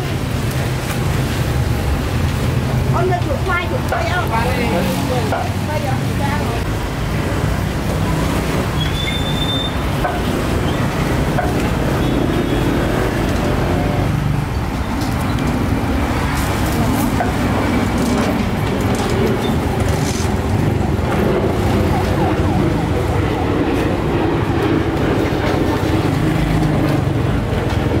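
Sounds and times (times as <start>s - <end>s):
road traffic: 0.0s - 28.0s
vehicle engines running: 0.0s - 28.0s.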